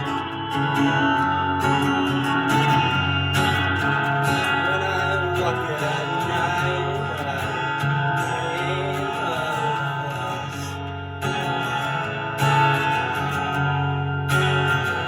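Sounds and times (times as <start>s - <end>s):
live band playing guitar music: 0.0s - 15.0s.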